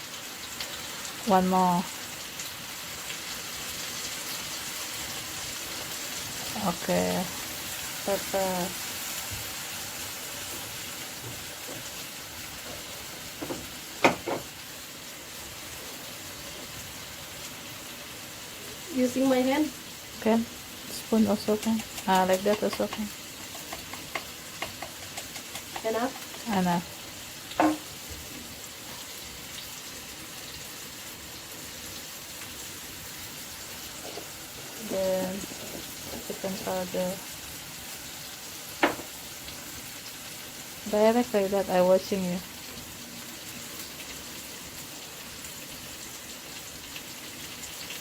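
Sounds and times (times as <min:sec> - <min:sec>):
chicken sizzling in a pan: 0:00.0 - 0:48.0.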